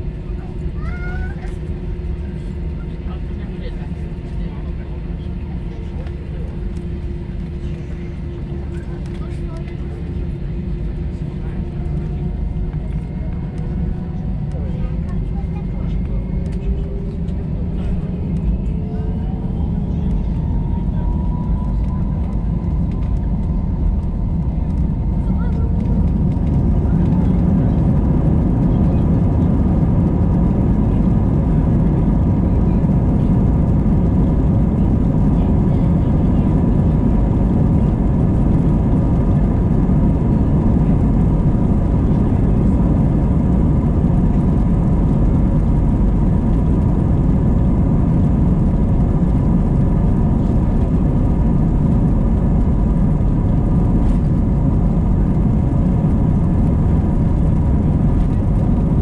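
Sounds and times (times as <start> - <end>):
cabin low rumble: 0.0 - 59.0
jet engine whine: 0.0 - 59.0.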